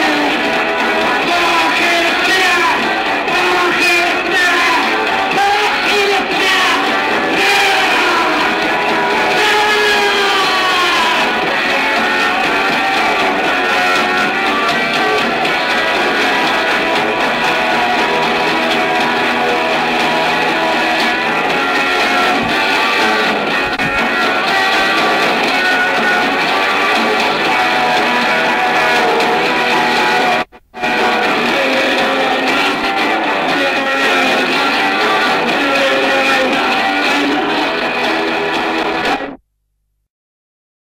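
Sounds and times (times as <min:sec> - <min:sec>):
electric guitar strumming chords: 0:00.0 - 0:39.4
punk rock band playing live: 0:00.0 - 0:39.4.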